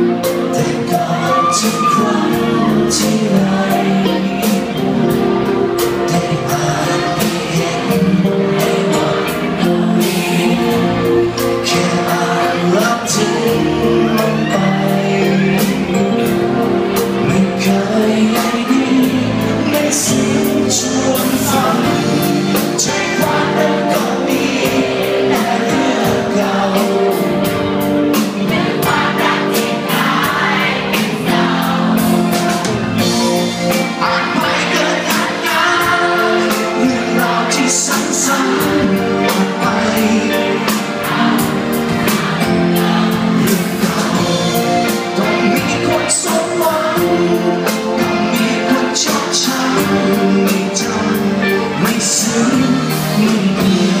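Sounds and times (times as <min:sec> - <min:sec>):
man singing into a microphone: 0:00.0 - 0:27.6, 0:33.0 - 0:41.5, 0:43.2 - 0:54.0
live band playing: 0:00.0 - 0:54.0
steady drum beat: 0:00.0 - 0:54.0.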